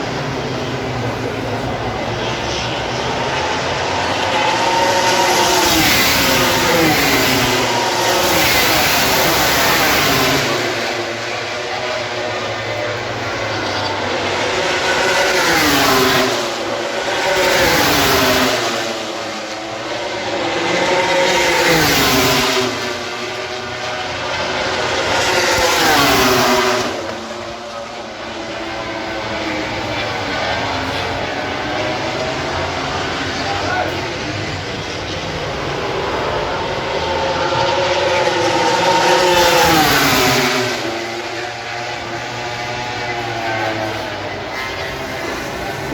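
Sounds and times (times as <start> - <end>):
racing motorcycles passing: 0.0 - 45.9.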